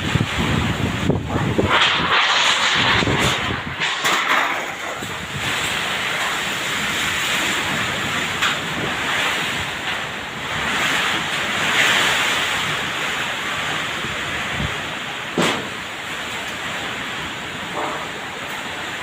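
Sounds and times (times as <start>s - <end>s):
storm wind gusting: 0.0s - 19.0s.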